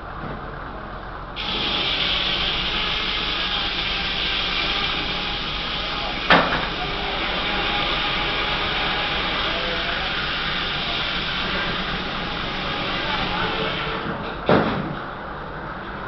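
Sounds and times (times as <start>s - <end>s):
circular saw cutting log: 1.4s - 14.4s.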